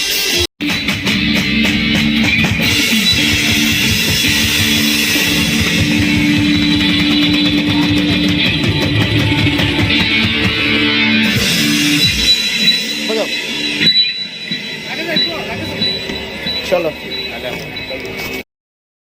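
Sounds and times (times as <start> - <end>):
drum kit beat: 0.0 - 17.9
guitar held notes: 0.7 - 18.4.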